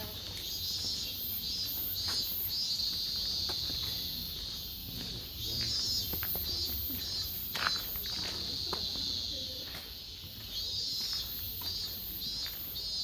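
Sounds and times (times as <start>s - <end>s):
insects calling in chorus: 0.0s - 13.0s.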